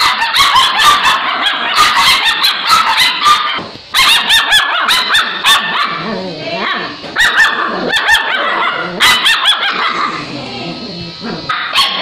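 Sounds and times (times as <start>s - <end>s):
puppies yapping and whining: 0.0s - 12.0s.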